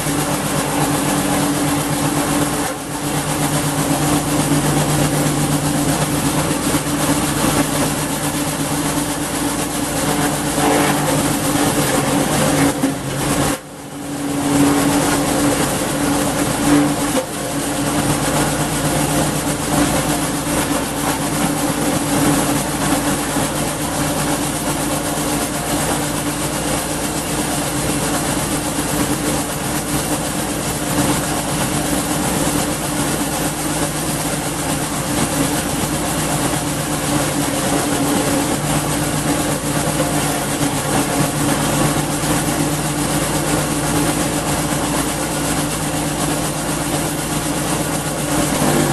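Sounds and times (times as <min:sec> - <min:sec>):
chipper mechanism whirring: 0:00.0 - 0:48.9
wood chipper engine running: 0:00.0 - 0:48.9.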